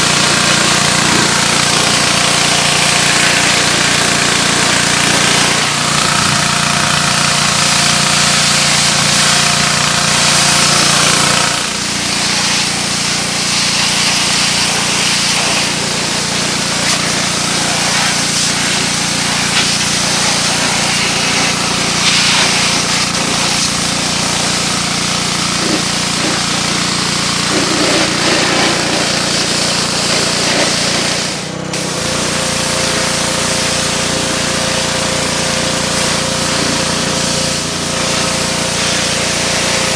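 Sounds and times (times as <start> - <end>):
pressure washer engine running: 0.0 - 39.9
water spraying hiss: 0.0 - 39.9.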